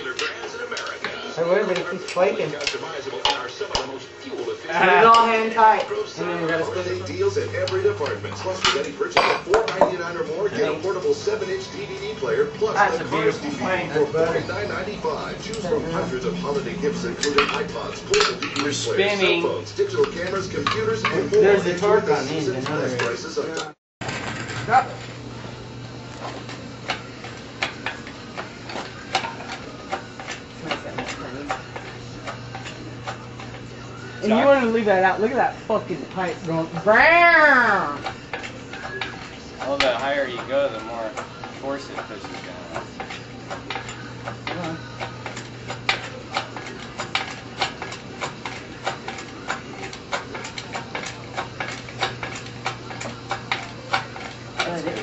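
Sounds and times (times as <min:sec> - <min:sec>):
steady low hum: 0:04.8 - 0:55.0.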